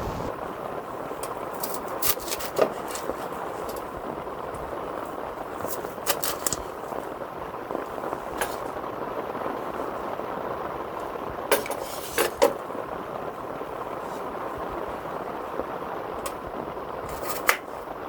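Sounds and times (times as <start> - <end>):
heavy rain on shelter: 0.0 - 18.0.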